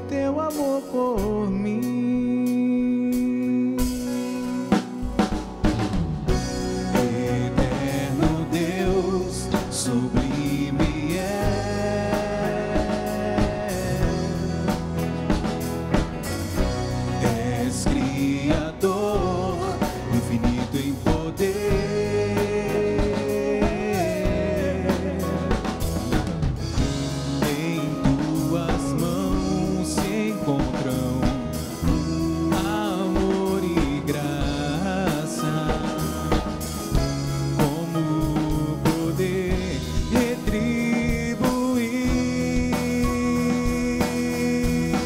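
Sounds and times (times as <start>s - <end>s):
band playing worship song: 0.0s - 45.0s
drum kit beat: 0.0s - 45.0s.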